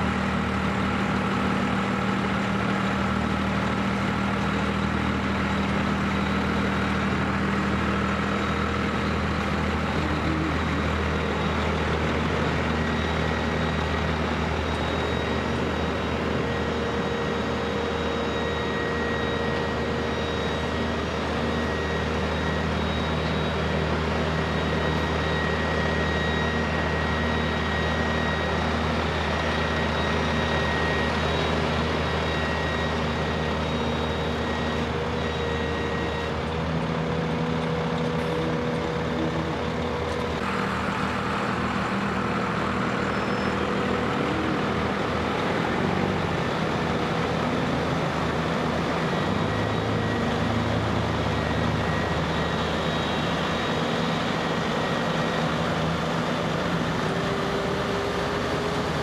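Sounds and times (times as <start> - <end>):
heavy truck diesel engines: 0.0 - 59.0.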